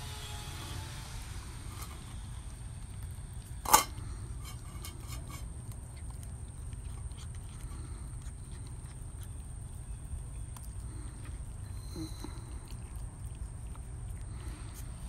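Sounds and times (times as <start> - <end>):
dogs eating from metal bowl: 1.6 - 15.0.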